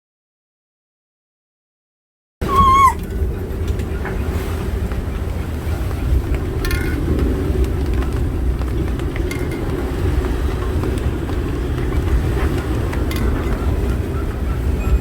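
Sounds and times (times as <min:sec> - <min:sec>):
wind buffeting microphone: 0:02.4 - 0:15.0.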